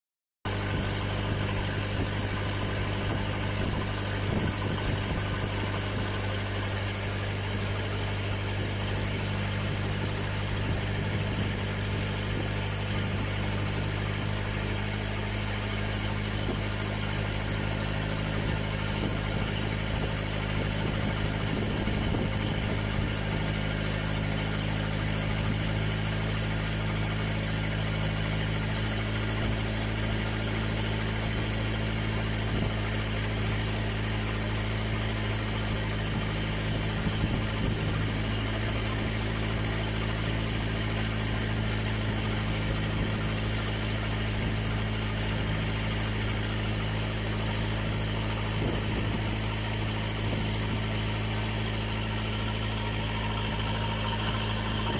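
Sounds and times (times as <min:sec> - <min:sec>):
boat engine droning: 0:00.5 - 0:54.9.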